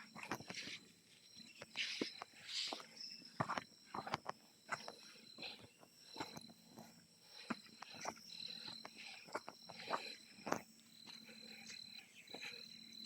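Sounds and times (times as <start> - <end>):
high-pitched insect calls: 0.0 - 13.0.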